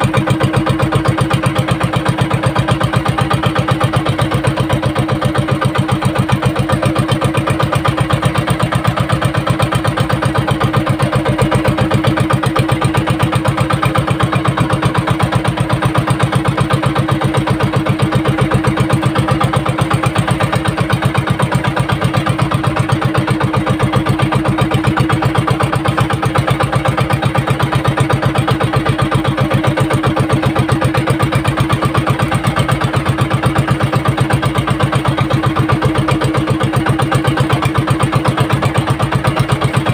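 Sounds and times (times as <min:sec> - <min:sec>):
boat engine puttering: 0:00.0 - 0:39.9.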